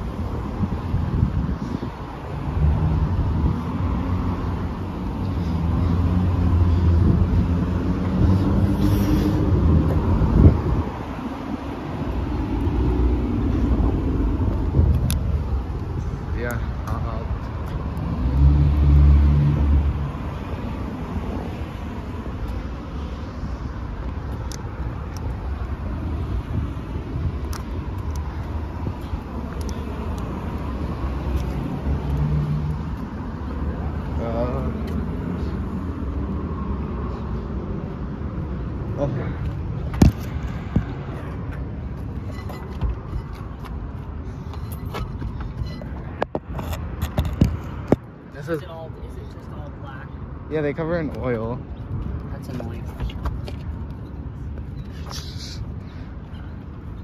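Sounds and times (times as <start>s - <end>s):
car traffic rumble: 0.0s - 57.0s.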